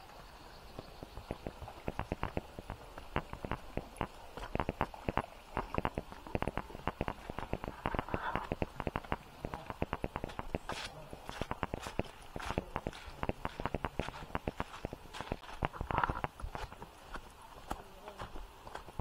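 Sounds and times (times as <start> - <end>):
footsteps on stones and leaves: 1.2 - 19.0.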